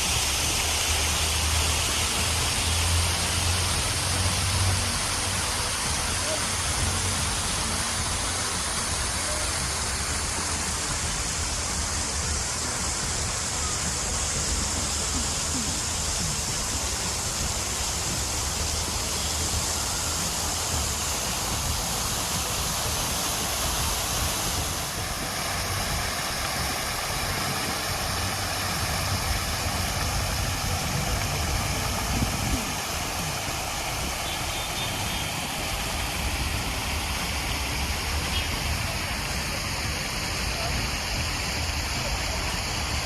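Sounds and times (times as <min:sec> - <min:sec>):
traffic noise: 0:00.0 - 0:43.0
vehicle engines idling: 0:00.0 - 0:43.0.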